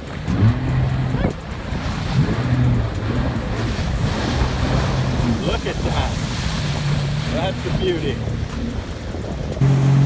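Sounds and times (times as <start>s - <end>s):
jet ski engine: 0.0s - 10.0s
rushing water: 0.0s - 10.0s
wind buffeting microphone: 0.0s - 10.0s.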